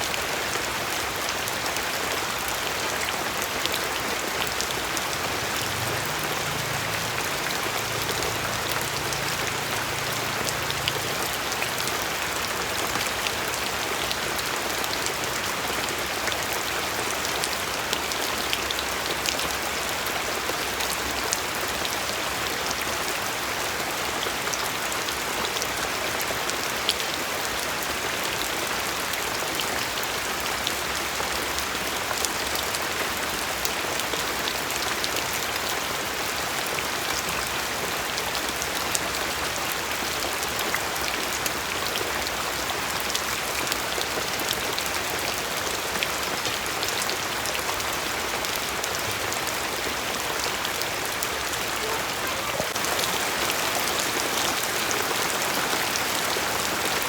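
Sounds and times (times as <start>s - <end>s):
rain hiss: 0.0s - 57.0s
raindrops ticking on a surface: 0.1s - 57.0s.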